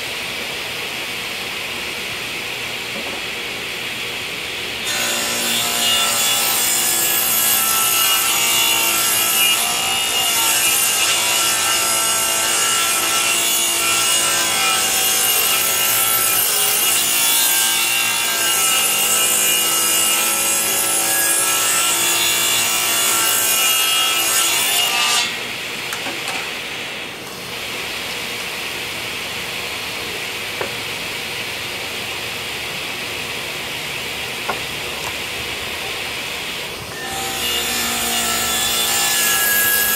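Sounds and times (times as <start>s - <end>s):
table saw cutting wood: 4.8s - 32.0s, 34.3s - 39.9s.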